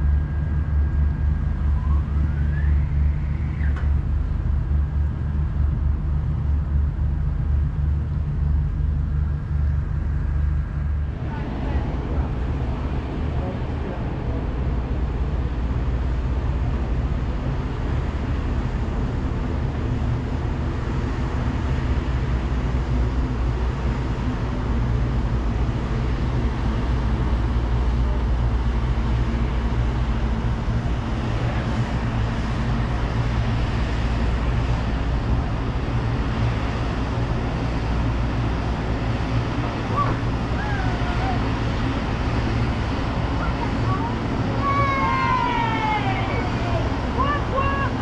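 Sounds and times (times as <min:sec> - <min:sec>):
ferry engine rumbling: 0:00.0 - 0:48.0.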